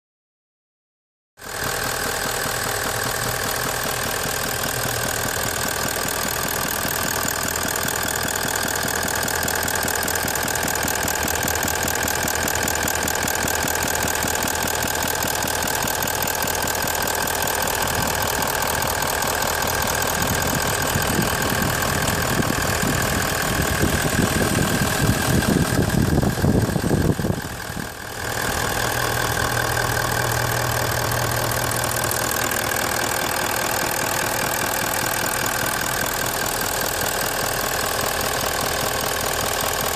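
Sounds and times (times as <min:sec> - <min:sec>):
diesel engine idling with knocking: 0:01.4 - 0:39.9.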